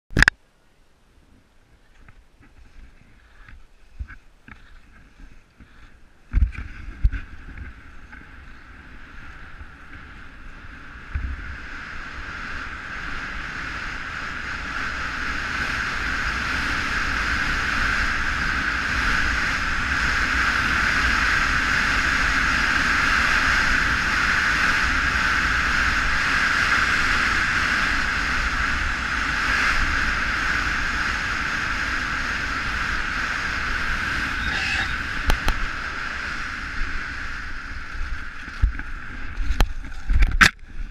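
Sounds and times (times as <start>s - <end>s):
wind rushing across microphone: 1.2s - 40.9s.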